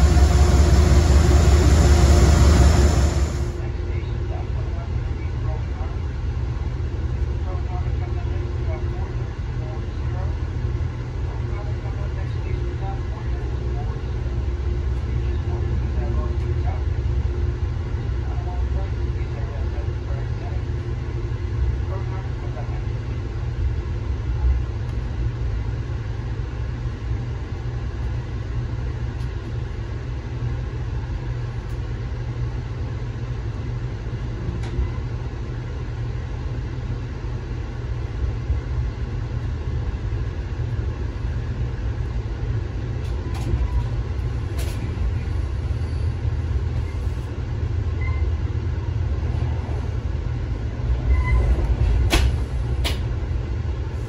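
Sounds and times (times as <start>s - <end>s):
moving train rumble: 0.0s - 54.0s.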